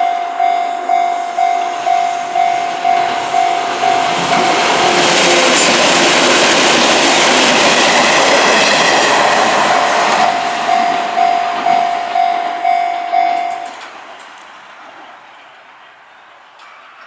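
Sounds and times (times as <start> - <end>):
level crossing warning bell: 0.0 - 14.5
train wheels rumbling on rails: 0.0 - 17.0.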